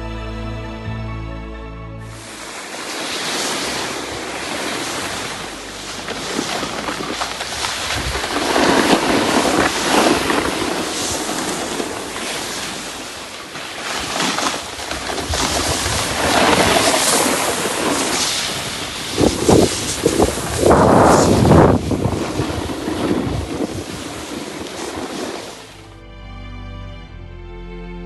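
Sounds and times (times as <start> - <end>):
wind buffeting microphone: 2.2 - 25.7
snowboard scraping on snow: 2.2 - 25.9.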